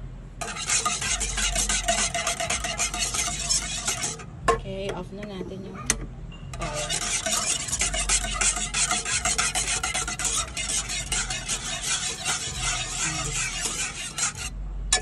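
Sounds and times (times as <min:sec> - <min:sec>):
whisk scraping metal pan: 0:00.4 - 0:04.6, 0:06.6 - 0:15.0.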